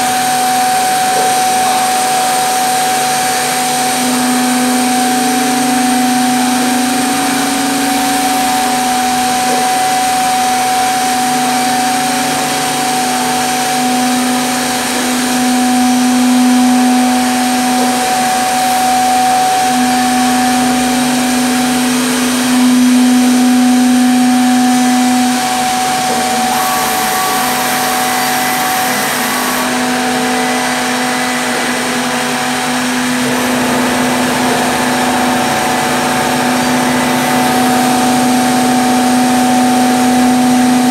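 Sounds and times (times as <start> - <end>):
machine spindle motors whining: 0.0 - 40.9.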